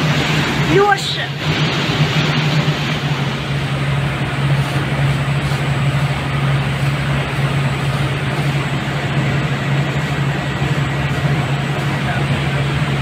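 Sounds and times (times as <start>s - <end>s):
boat engine droning: 0.0s - 13.0s
rushing noise: 0.0s - 13.0s.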